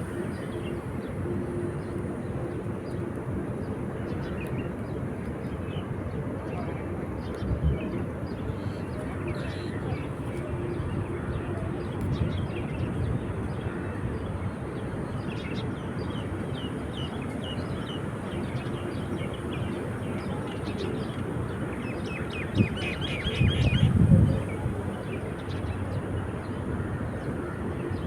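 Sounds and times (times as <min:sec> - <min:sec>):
low rumble of wind or surf: 0:00.0 - 0:28.0.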